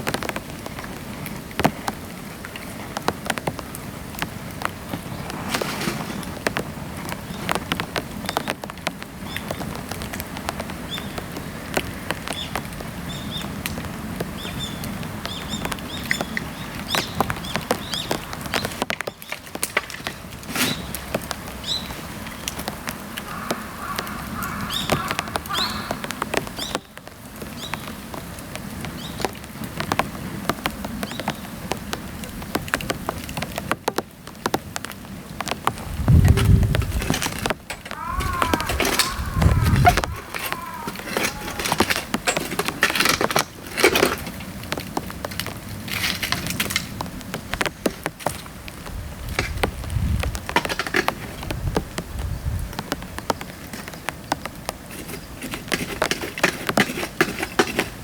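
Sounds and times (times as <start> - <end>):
bamboo crackling in bonfire: 0.0 - 58.0
rain pattering: 0.0 - 58.0.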